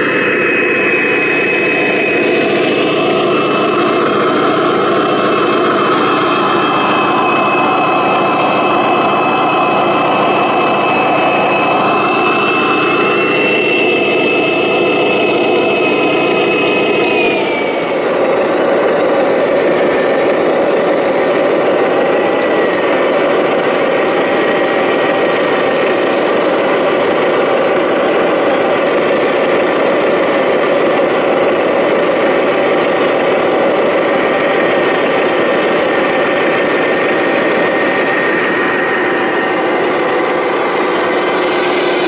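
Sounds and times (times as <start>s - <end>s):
faint high whine: 0.0s - 42.0s
model truck engine running: 0.0s - 42.0s.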